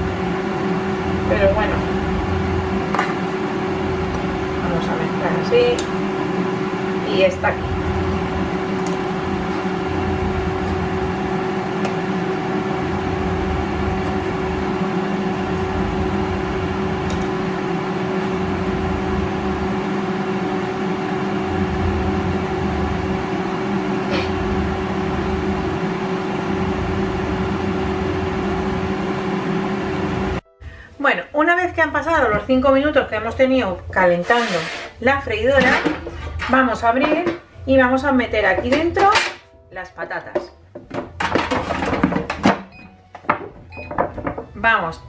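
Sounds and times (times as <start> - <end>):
air fryer fan hum: 0.0 - 45.0.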